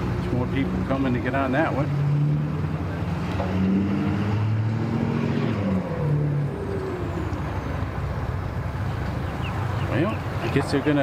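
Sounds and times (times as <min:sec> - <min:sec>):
motor engines droning: 0:00.0 - 0:11.0.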